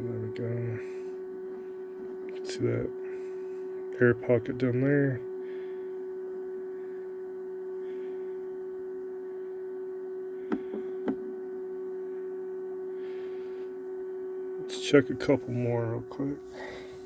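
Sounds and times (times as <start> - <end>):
electrical equipment hum: 0.0 - 17.0.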